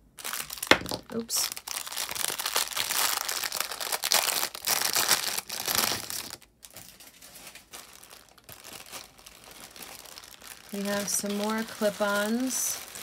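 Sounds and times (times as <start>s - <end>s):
plastic bag crinkling: 0.2s - 13.0s.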